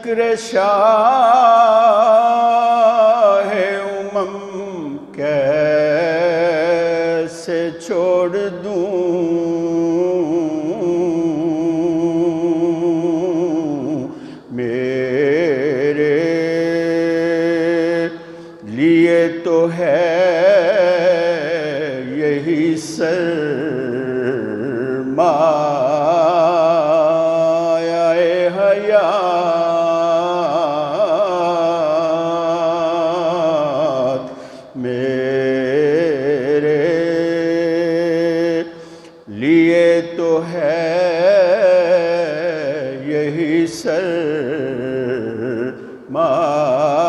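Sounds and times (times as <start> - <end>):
man singing devotional song: 0.0 - 47.0.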